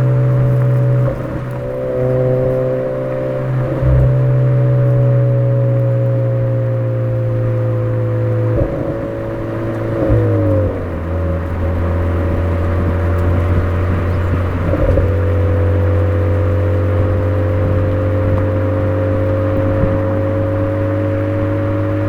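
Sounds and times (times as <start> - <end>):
car exhaust note: 0.0 - 22.0.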